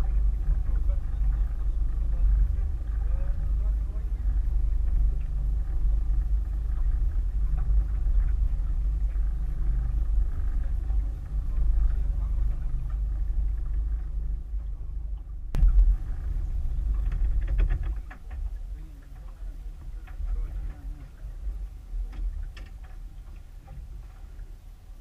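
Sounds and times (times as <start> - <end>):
outboard motor rumble: 0.0 - 25.0.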